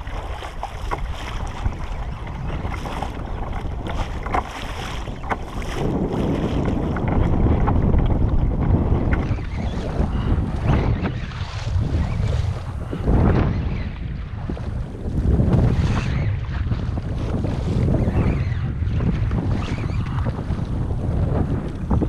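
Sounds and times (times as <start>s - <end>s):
water splashing against hull: 0.0s - 22.0s
wind buffeting microphone: 0.0s - 22.0s.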